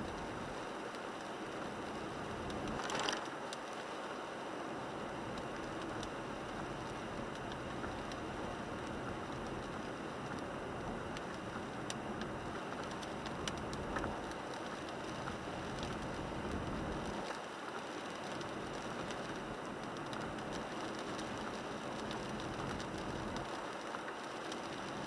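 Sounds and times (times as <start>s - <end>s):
rain pattering on car roof: 0.0s - 25.0s.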